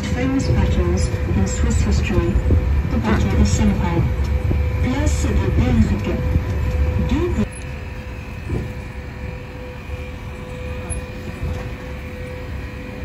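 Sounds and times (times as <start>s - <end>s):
road train rumbling: 0.0s - 13.0s.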